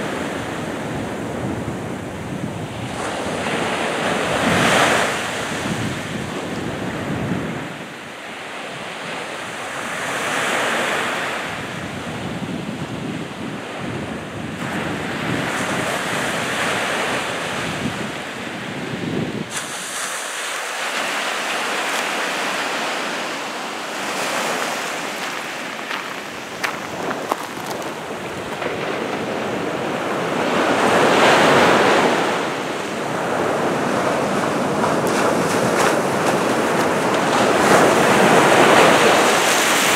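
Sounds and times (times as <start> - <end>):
waves washing on shingle beach: 0.0 - 39.9.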